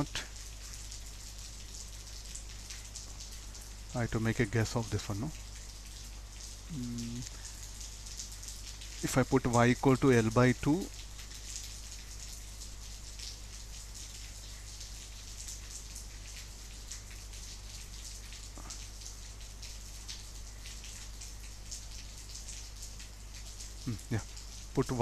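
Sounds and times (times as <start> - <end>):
rain through closed windows: 0.0 - 25.0.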